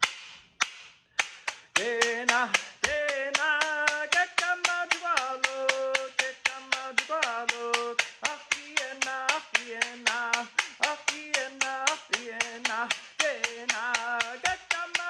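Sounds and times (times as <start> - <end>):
fast percussion beat: 1.2 - 15.0
man singing: 1.7 - 15.0.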